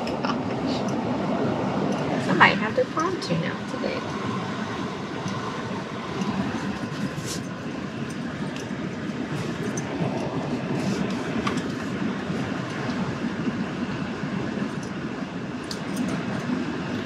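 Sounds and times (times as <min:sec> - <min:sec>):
tyres and engine rumble: 0:00.0 - 0:17.0.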